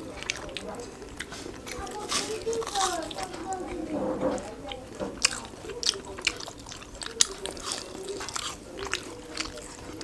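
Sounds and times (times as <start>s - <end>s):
chewing and biting burger: 0.0s - 10.0s.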